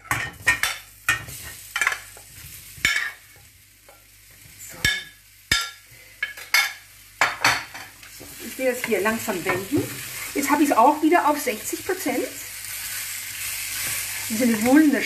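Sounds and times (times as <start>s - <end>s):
fruit sizzling in hot oil: 0.0s - 15.0s.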